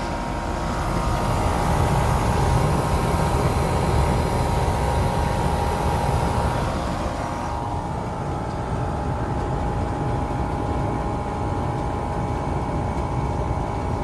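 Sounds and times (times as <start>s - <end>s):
air conditioner fan blowing: 0.0s - 14.0s
mid-pitched hum: 0.0s - 14.0s.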